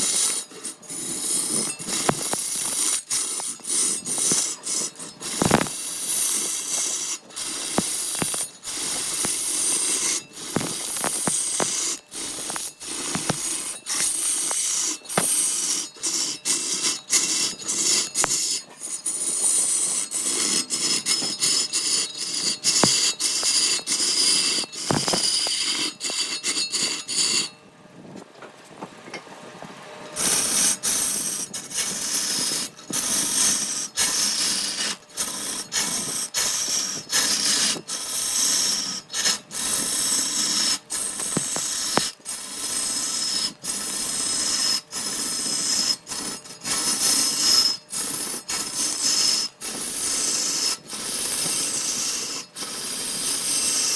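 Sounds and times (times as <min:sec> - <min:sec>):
tool scraping wood: 0:00.0 - 0:27.6, 0:30.2 - 0:53.9.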